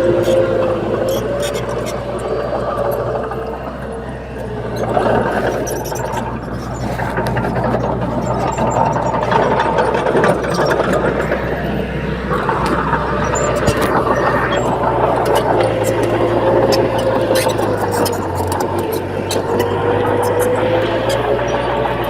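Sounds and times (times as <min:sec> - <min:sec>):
bulldozer diesel engine running: 0:00.0 - 0:22.0
mechanical clatter: 0:00.0 - 0:22.0.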